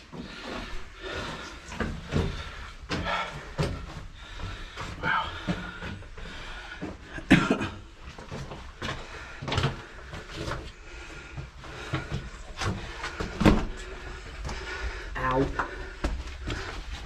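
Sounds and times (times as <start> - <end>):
people crawling through cave: 0.0 - 17.0.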